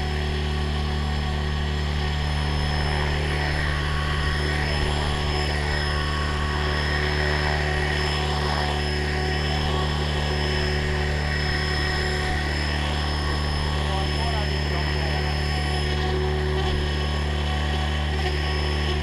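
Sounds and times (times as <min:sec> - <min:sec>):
drone motors buzzing whine: 0:00.0 - 0:19.0.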